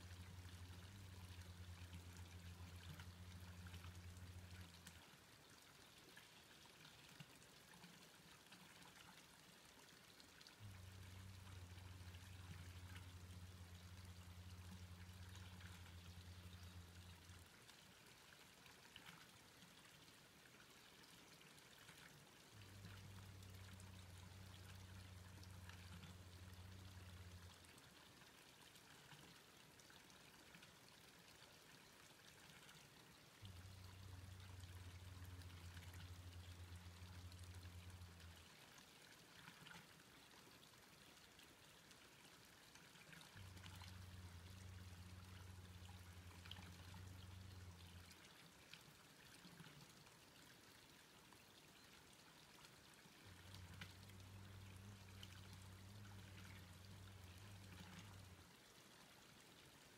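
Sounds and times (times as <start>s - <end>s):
faint outdoor hiss: 0.0s - 59.9s
low steady hum: 0.0s - 59.9s.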